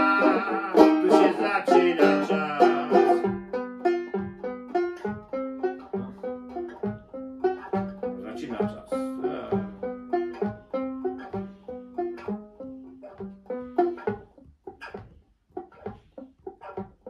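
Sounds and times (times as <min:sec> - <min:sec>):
banjo playing: 0:00.0 - 0:17.0.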